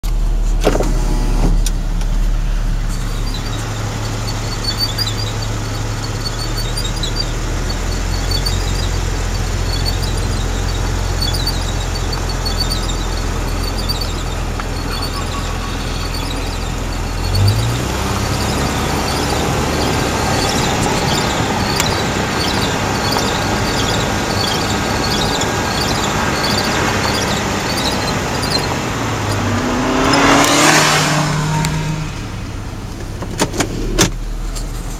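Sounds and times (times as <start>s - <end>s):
car engine running: 0.0s - 34.9s
short high-pitched squeak: 2.9s - 9.0s, 9.6s - 32.0s.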